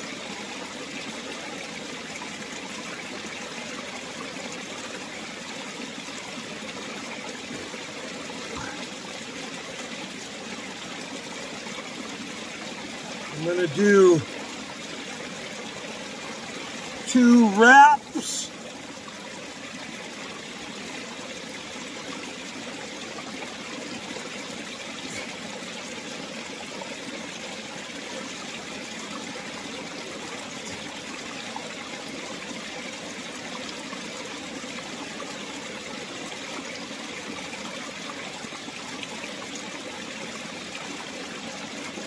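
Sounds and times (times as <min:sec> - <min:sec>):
flowing water: 0:00.0 - 0:42.0.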